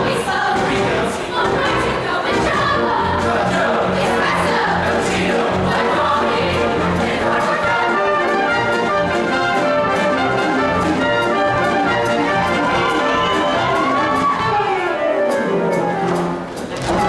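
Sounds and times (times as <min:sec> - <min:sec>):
choir singing in harmony: 0:00.0 - 0:17.0
brass accompaniment: 0:02.3 - 0:17.0.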